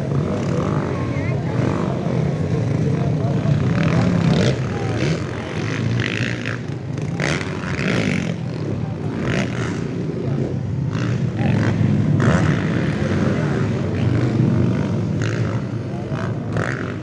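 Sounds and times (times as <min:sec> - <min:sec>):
dirt bike engines droning: 0:00.0 - 0:17.0.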